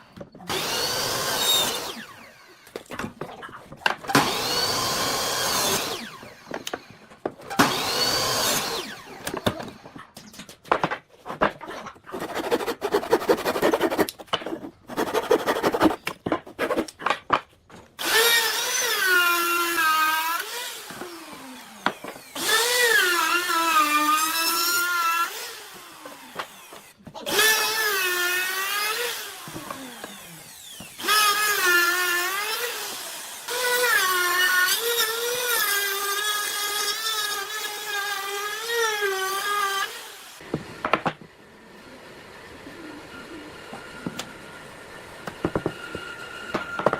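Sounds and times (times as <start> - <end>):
woodworking power tool whining: 0.2 - 2.8, 4.0 - 10.0, 12.1 - 16.9, 18.0 - 46.9.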